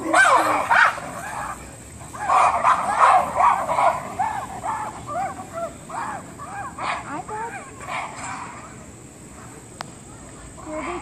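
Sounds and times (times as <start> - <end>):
geladas yelping: 0.0 - 9.6.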